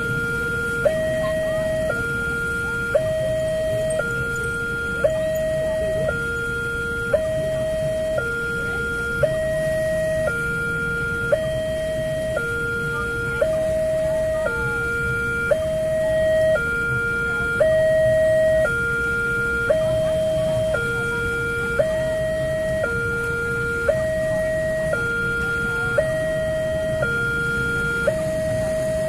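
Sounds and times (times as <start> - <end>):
level crossing two-tone alarm: 0.0 - 29.0.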